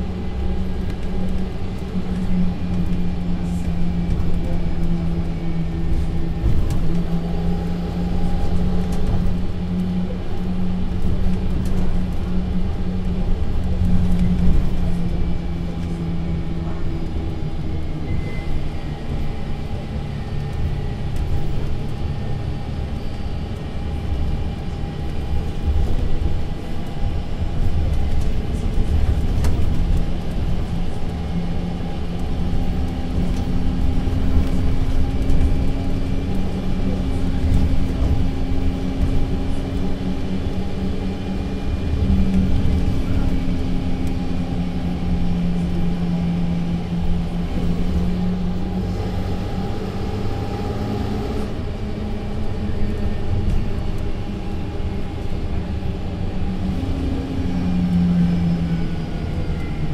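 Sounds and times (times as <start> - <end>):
bus diesel engine rumbling: 0.0 - 59.9.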